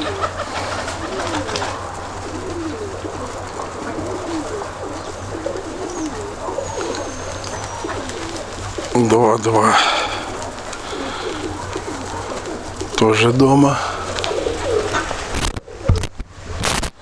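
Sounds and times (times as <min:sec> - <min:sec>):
pigeons cooing: 0:00.0 - 0:16.6.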